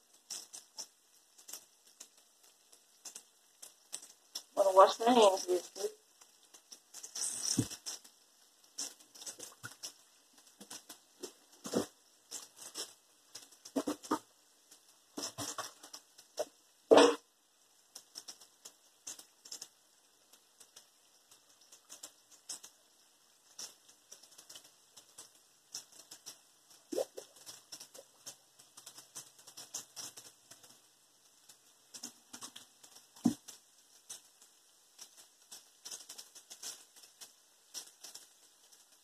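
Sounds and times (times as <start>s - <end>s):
bacon frying in hot oil: 0.0s - 39.0s.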